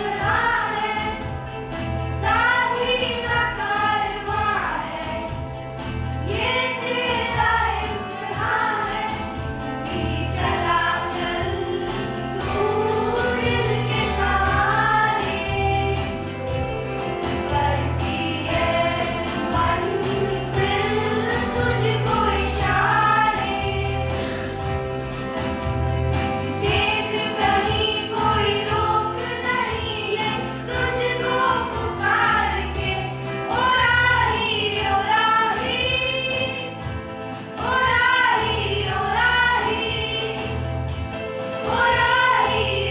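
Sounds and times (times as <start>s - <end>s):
choir singing: 0.0s - 1.5s, 2.1s - 5.5s, 6.2s - 25.1s, 26.4s - 36.9s, 37.5s - 40.6s, 41.6s - 42.9s
instrumental accompaniment: 0.0s - 42.9s.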